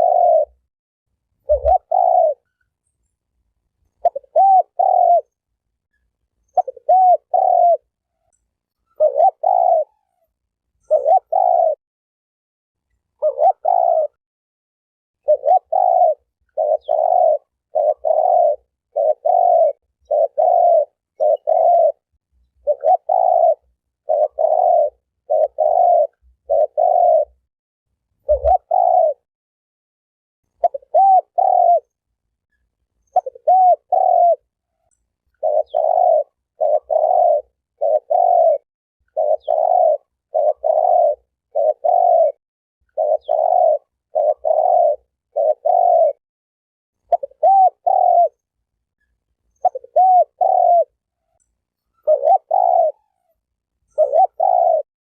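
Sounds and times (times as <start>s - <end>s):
dove cooing: 0.0s - 0.7s, 1.4s - 2.6s, 4.0s - 5.4s, 6.4s - 11.8s, 13.2s - 14.2s, 15.2s - 27.4s, 28.2s - 29.2s, 30.6s - 32.0s, 33.1s - 46.2s, 47.0s - 48.4s, 49.5s - 54.9s.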